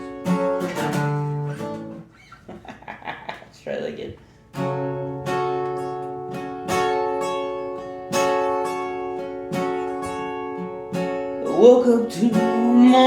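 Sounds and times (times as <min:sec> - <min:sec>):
guitar strumming chords: 0:00.0 - 0:02.1, 0:04.2 - 0:13.0.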